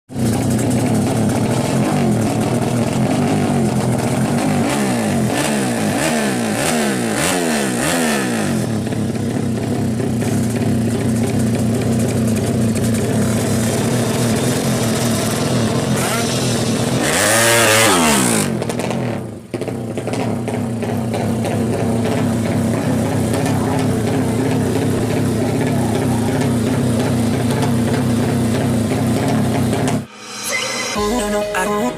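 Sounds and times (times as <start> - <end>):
motorcycle engine revving: 0.1 - 30.1.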